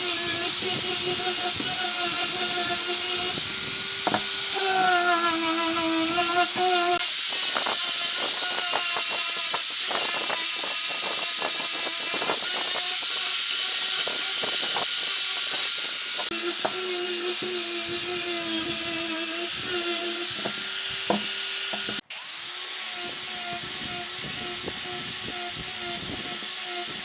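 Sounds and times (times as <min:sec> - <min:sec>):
power tool motor whining: 0:00.0 - 0:27.0
tool hissing and crackling in wood: 0:00.0 - 0:27.0.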